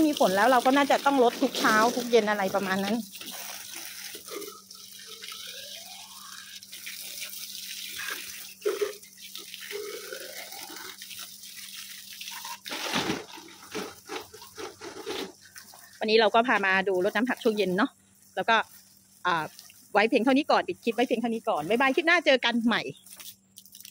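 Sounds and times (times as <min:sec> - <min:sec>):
water from hose splashing on plants: 0:00.0 - 0:23.9.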